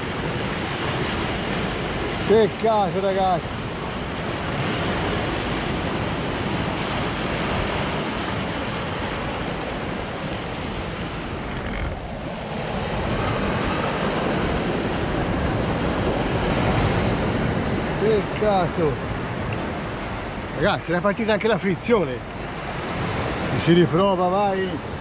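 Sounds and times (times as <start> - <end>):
sea surf breaking over rocks: 0.0 - 25.0
wind buffeting microphone: 0.0 - 25.0.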